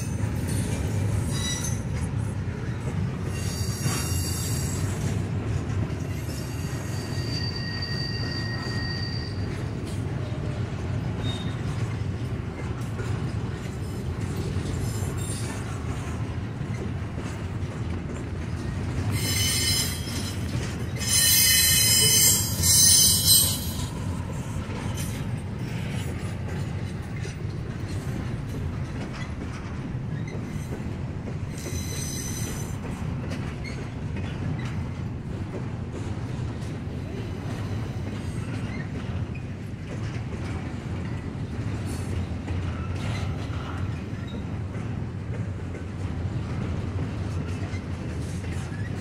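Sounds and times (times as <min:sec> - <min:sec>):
train wheels squealing: 0:00.0 - 0:05.2, 0:06.0 - 0:12.0, 0:13.5 - 0:16.0, 0:18.7 - 0:28.3, 0:29.1 - 0:35.0, 0:36.6 - 0:45.5, 0:47.2 - 0:49.0
train cars rumbling past: 0:00.0 - 0:49.0.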